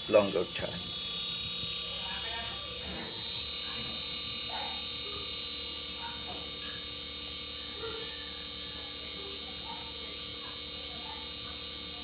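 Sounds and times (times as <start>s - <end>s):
air conditioner whine and hum: 0.0s - 12.0s.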